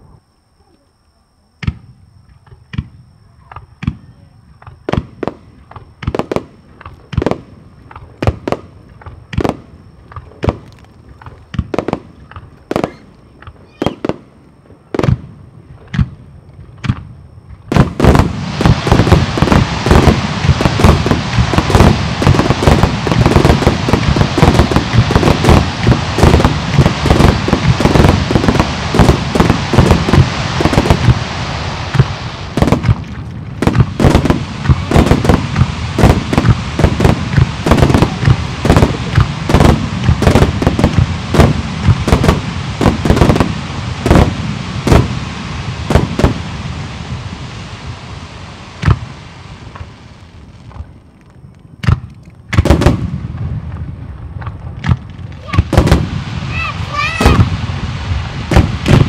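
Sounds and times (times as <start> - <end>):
firework barrage bangs and crackle: 1.6 - 59.0.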